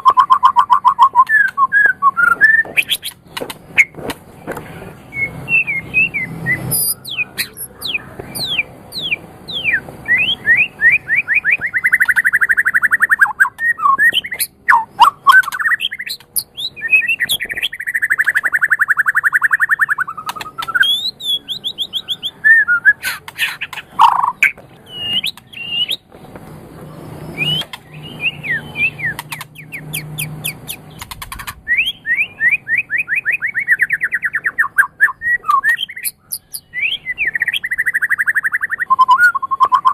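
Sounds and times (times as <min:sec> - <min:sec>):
shama singing with fast trills: 0:00.0 - 0:04.0, 0:05.0 - 0:26.1, 0:27.2 - 0:39.9.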